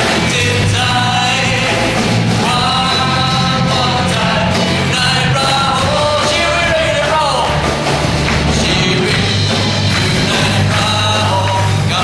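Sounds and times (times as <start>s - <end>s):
singer singing into a microphone: 0.0s - 7.7s, 8.4s - 12.0s
live band playing: 0.0s - 12.0s.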